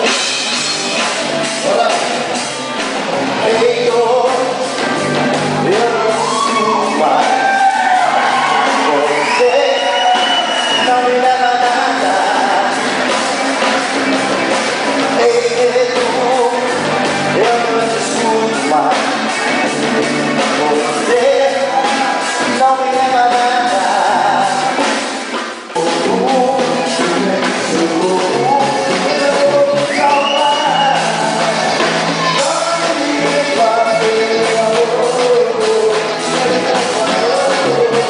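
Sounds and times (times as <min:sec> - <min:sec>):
man singing: 0:00.0 - 0:00.6, 0:01.5 - 0:14.0, 0:14.8 - 0:38.0
live rock band playing: 0:00.0 - 0:38.0.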